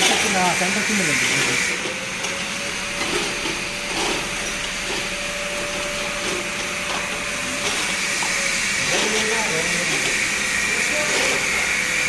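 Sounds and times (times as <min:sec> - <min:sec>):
small motor whining: 0:00.0 - 0:12.0.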